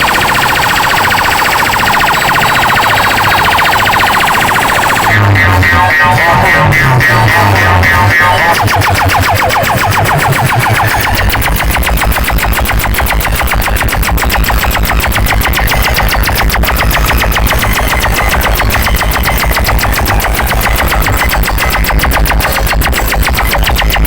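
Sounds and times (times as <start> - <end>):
rapid heavy bass hits: 0.0 - 24.0.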